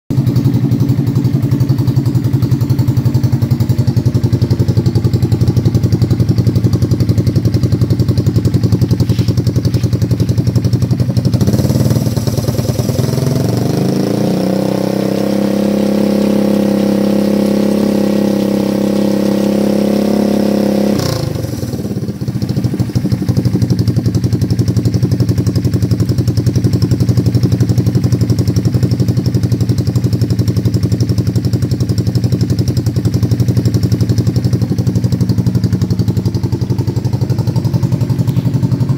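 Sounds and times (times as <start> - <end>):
engine idling and revving: 0.1 - 38.9.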